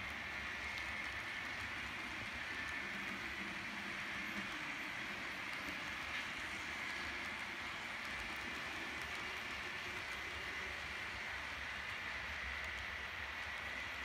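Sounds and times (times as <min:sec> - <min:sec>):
model train cars rolling: 0:00.0 - 0:14.0.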